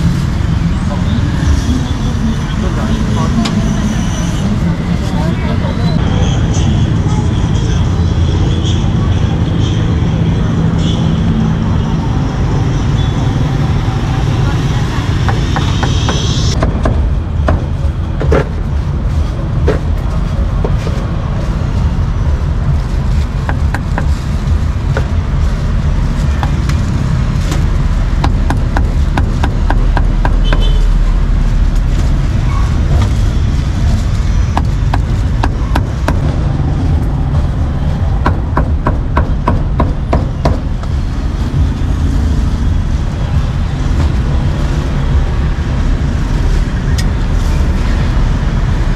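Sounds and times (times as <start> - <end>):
motorbikes: 0.0 - 48.9
street traffic rumble: 0.0 - 48.9.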